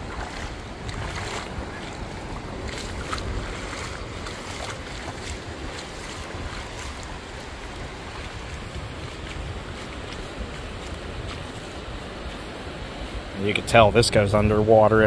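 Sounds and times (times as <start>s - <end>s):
distant small waves breaking: 0.0s - 15.0s
wind buffeting microphone: 0.0s - 15.0s.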